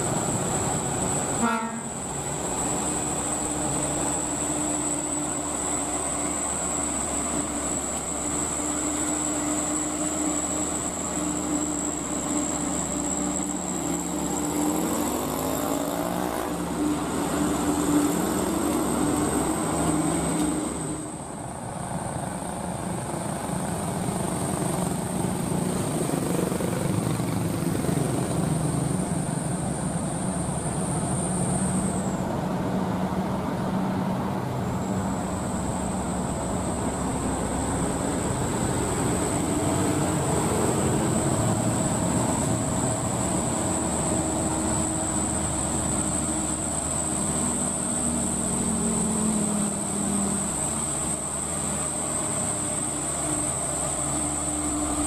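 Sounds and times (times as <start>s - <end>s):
diesel truck engine pulling uphill: 0.0s - 55.0s
road noise: 0.0s - 55.0s
steady high whine: 0.0s - 55.0s.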